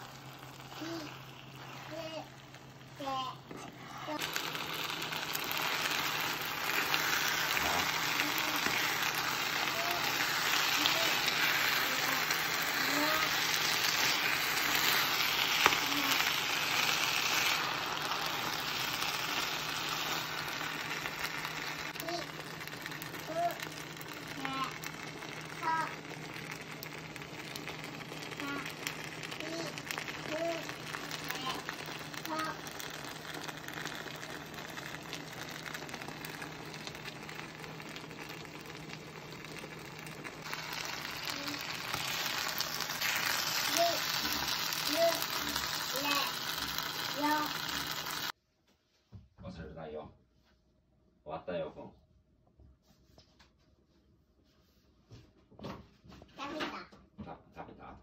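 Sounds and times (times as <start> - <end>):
rice sizzling in frying pan: 0.0 - 48.4.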